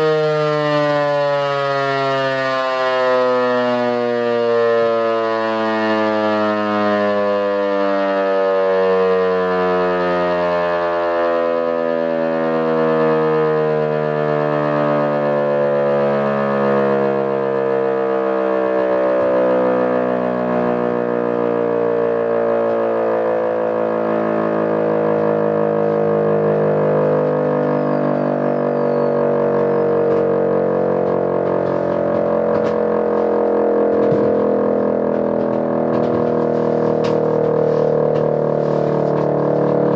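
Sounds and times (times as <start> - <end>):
electromechanical siren wailing: 0.0 - 39.9.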